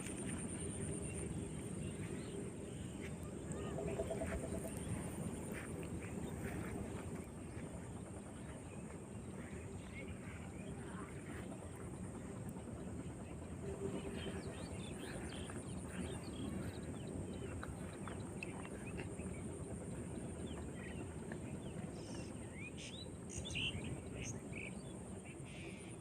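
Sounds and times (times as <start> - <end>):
birds chirping: 0.0 - 24.8.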